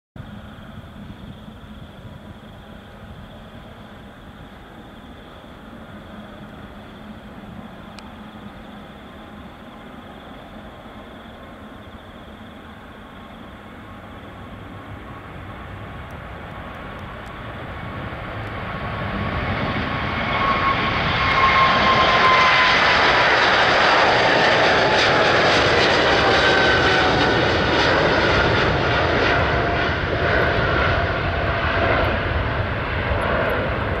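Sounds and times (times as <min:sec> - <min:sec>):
jet engine whine: 0:00.2 - 0:34.0
jet engines at takeoff thrust: 0:00.2 - 0:34.0.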